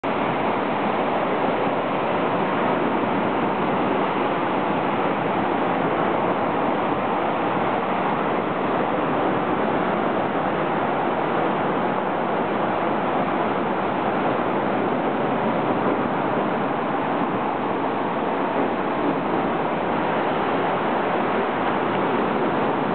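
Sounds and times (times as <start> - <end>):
strong wind: 0.0 - 22.9
surf breaking on beach: 0.0 - 22.9.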